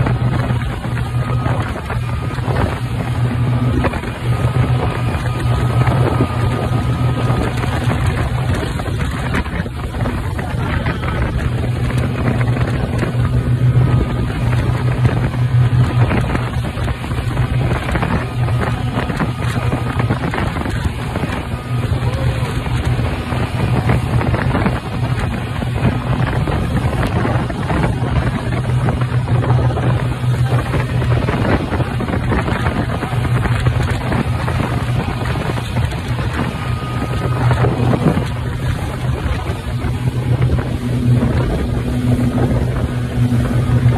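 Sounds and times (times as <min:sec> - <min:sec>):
speedboat engine hum: 0:00.0 - 0:43.9
water rushing from wake: 0:00.0 - 0:43.9
wind buffeting microphone: 0:00.0 - 0:43.9.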